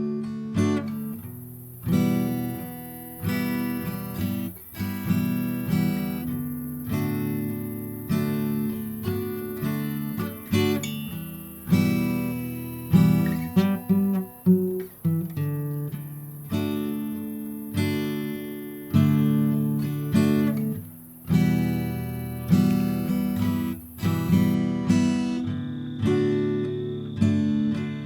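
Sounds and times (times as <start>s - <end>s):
acoustic guitar strummed chords: 0.0s - 28.0s.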